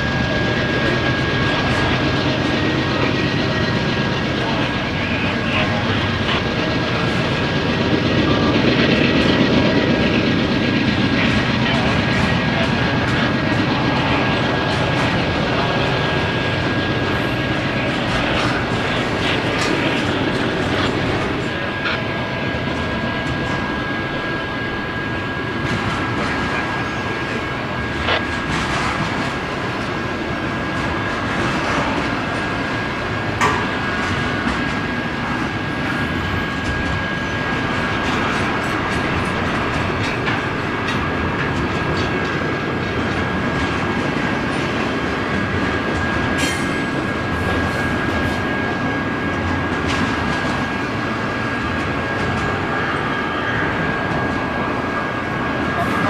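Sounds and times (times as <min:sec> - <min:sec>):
train wheels rumbling on rails: 0:00.0 - 0:56.0
clickety-clack over rail joints: 0:00.6 - 0:23.8, 0:28.0 - 0:54.6.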